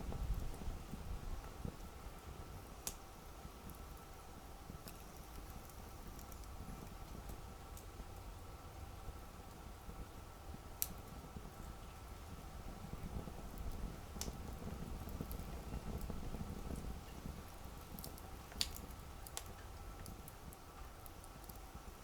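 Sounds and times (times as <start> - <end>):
campfire flames rumbling: 0.0 - 22.0
fire crackling and popping: 0.0 - 22.0.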